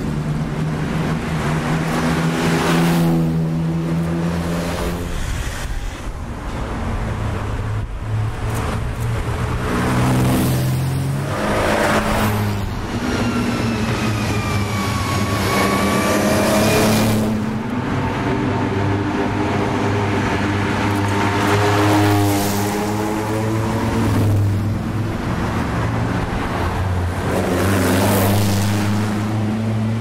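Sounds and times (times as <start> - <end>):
racing cars accelerating past: 0.0 - 5.7, 8.6 - 30.0.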